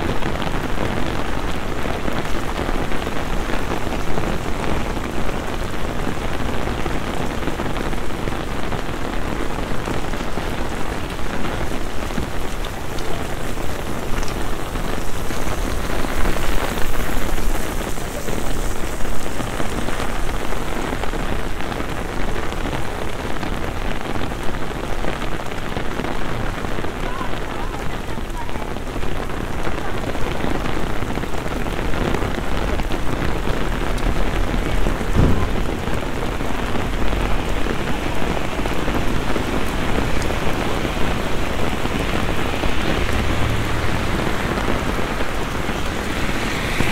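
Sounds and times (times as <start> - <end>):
heavy rain splashing into water: 0.0 - 46.9.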